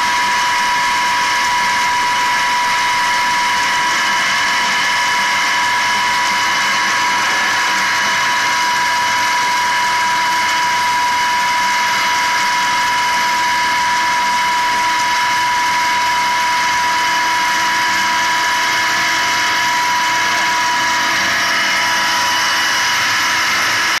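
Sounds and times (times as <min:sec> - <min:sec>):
pump whining: 0:00.0 - 0:24.0.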